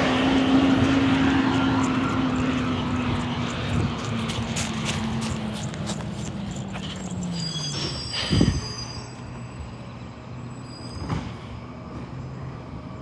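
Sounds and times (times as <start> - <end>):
brakes squealing: 0.0 - 13.0
truck engine: 0.0 - 13.0.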